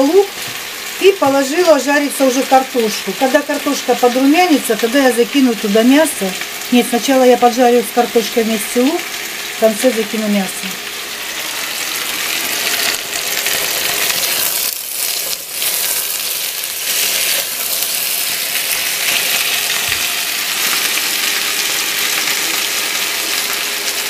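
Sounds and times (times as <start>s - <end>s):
potatoes and onion sizzling: 0.0s - 24.0s.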